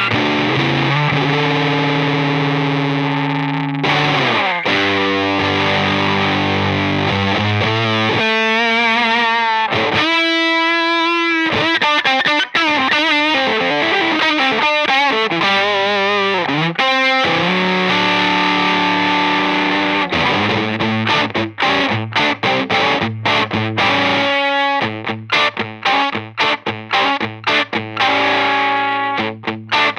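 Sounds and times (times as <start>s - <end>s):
fuzz electric guitar: 0.0s - 29.9s.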